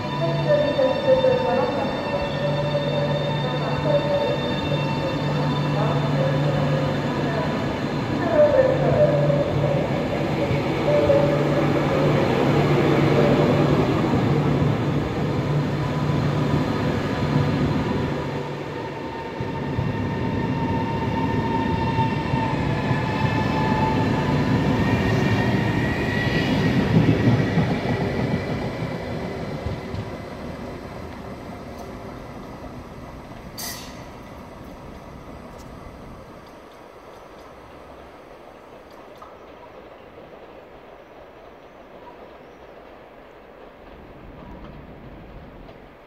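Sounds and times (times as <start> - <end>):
electric train passing: 0.0 - 46.0.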